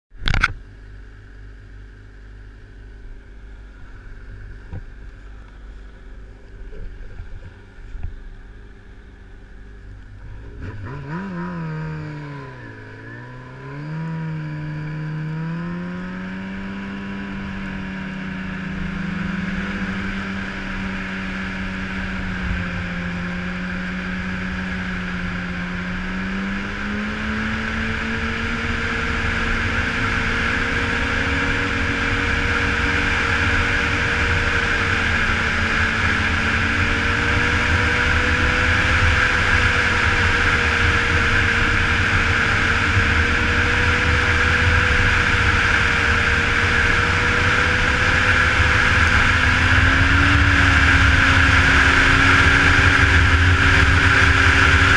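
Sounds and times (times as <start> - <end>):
snowmobile engine idling and revving: 0.2 - 54.9.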